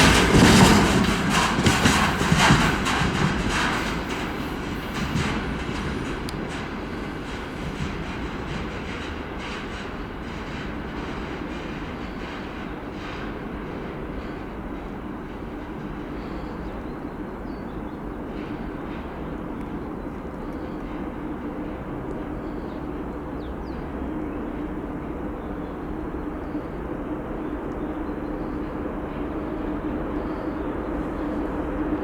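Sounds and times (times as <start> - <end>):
freight train rumbling: 0.0 - 32.0
locomotive droning hum: 0.0 - 32.0.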